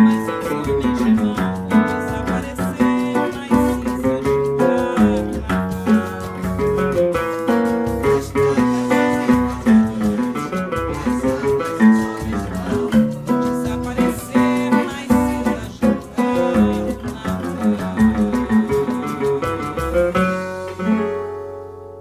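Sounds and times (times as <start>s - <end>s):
acoustic guitar playing samba: 0.0s - 22.0s.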